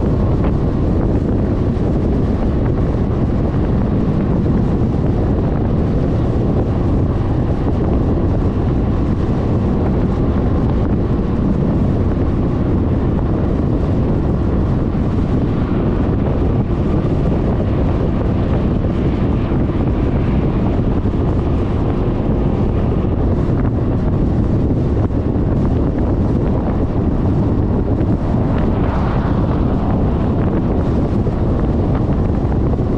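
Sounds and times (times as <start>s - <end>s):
scooter running with road noise: 0.0s - 32.9s
wind rumble on microphone: 0.0s - 32.9s.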